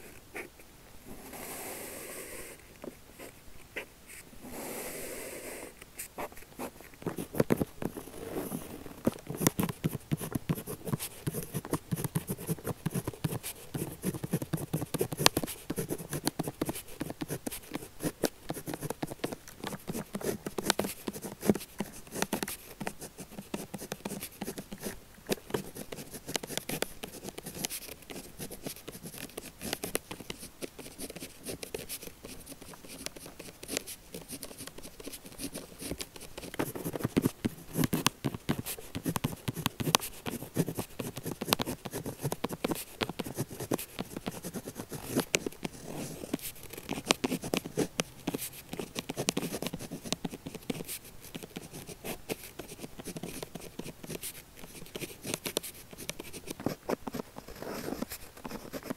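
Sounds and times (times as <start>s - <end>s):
pen scratching on paper: 6.0s - 58.9s.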